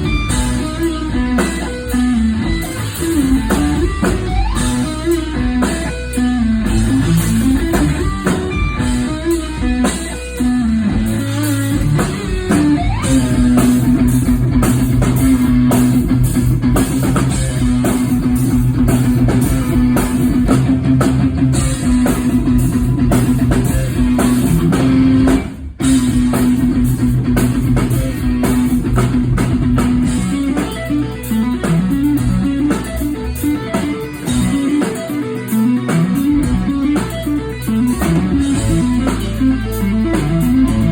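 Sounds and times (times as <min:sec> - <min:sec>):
heavy low guitar notes: 0:00.0 - 0:40.9
live rock band playing: 0:00.0 - 0:40.9.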